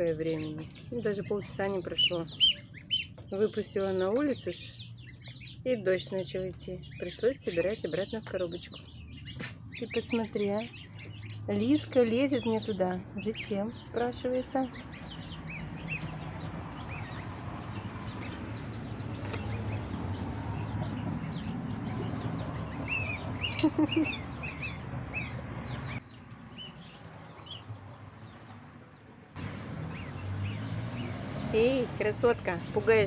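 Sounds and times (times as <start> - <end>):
goslings and ducklings peeping: 0.0 - 27.8, 29.4 - 31.9.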